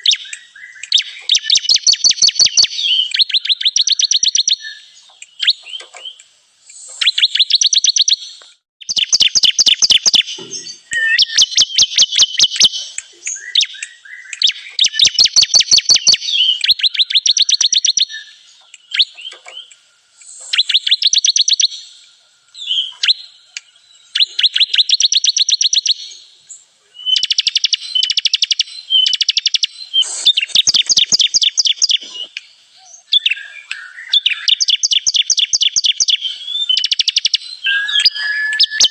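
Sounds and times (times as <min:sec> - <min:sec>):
bird rapid trilling song: 0:00.0 - 0:38.9.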